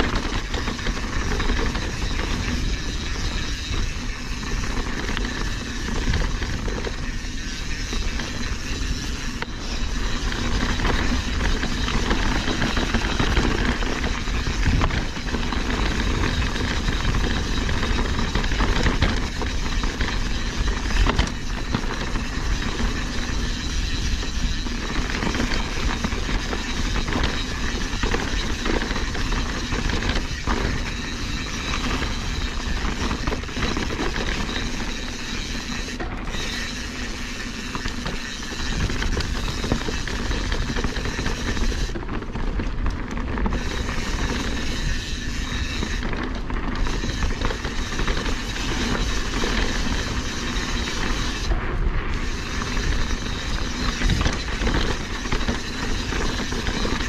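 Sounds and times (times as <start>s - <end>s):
bike rattling: 0.0s - 57.0s
bike tyres on rock: 0.0s - 57.0s
wind noise: 0.0s - 57.0s.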